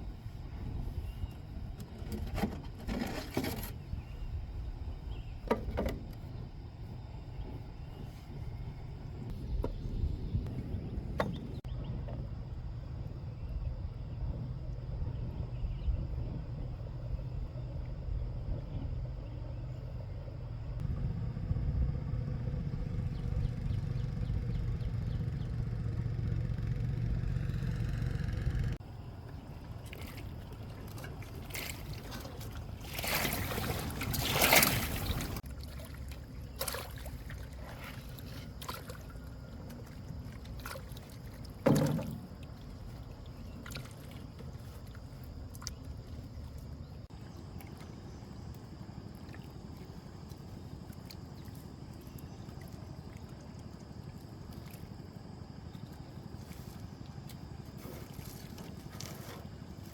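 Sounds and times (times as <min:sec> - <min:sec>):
water splashing and sloshing: 0:00.0 - 0:13.6, 0:19.4 - 0:59.9
small boat motor running: 0:03.5 - 0:59.9.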